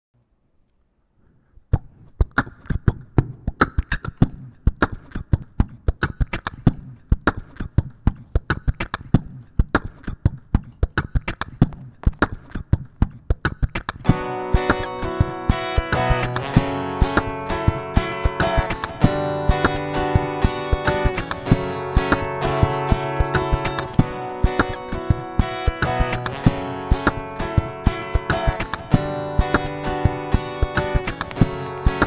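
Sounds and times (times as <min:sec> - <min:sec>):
percussive beat on guitar body: 0:01.8 - 0:32.0.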